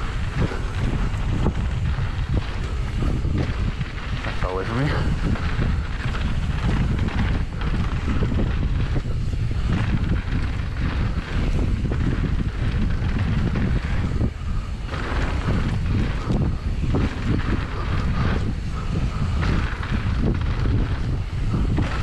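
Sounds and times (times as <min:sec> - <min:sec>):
mountain bike rumbling and rattling: 0:00.0 - 0:22.0
wind rushing over microphone: 0:00.0 - 0:22.0.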